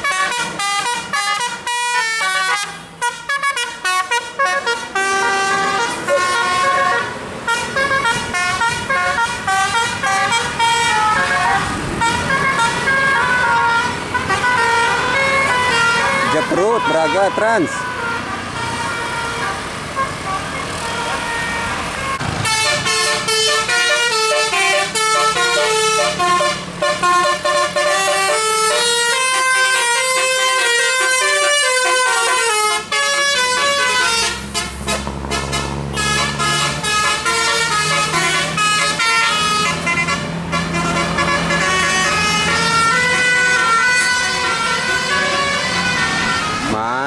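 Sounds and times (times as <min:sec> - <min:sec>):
bus diesel engine: 0:00.0 - 0:47.0
musical air horns playing tune: 0:00.0 - 0:47.0.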